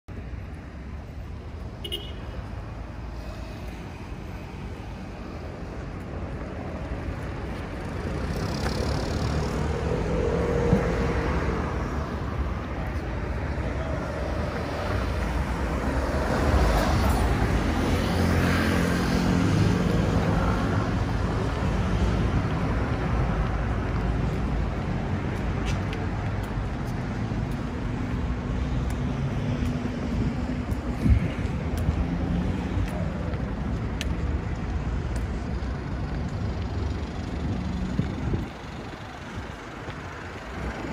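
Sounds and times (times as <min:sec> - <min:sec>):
cars passing on street: 0:00.1 - 0:40.9.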